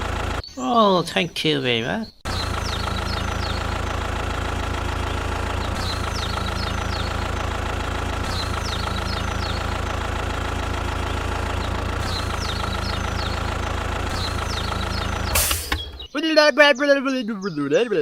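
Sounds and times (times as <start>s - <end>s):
tractor engine idling: 0.0s - 0.5s, 2.3s - 16.6s
high falling chirps: 0.2s - 18.0s.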